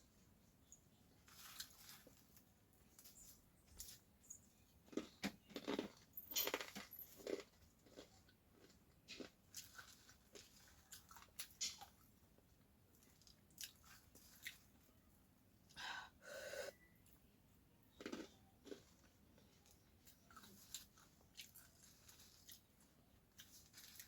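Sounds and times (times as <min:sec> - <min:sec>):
crunchy chewing of snack: 0:00.6 - 0:15.0, 0:17.9 - 0:24.0.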